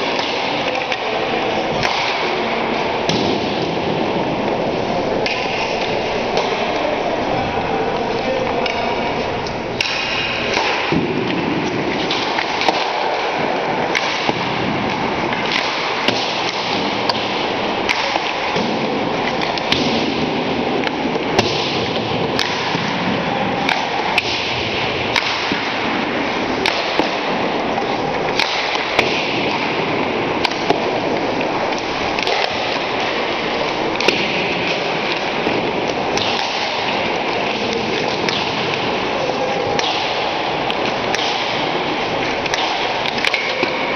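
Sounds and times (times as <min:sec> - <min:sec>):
pucks cracking off sticks: 0:00.0 - 0:43.9
pucks knocking off boards: 0:00.0 - 0:43.9.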